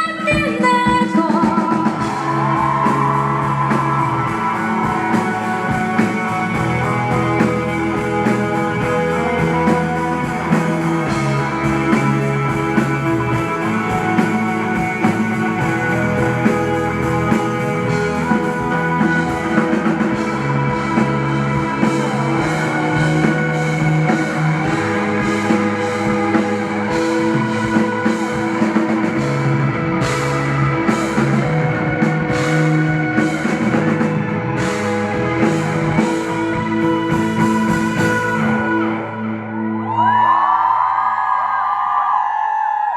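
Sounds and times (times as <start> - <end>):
rock band playing: 0.0 - 40.8.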